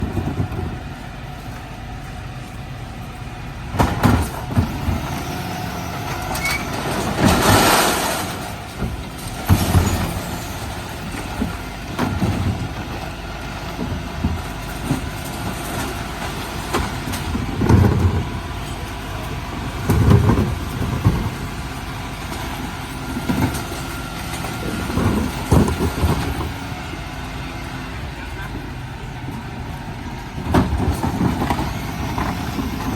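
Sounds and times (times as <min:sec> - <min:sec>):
bins clanking and thumping: 0:00.0 - 0:01.2, 0:03.7 - 0:26.9, 0:30.3 - 0:32.9
truck engine rumbling: 0:00.0 - 0:32.9.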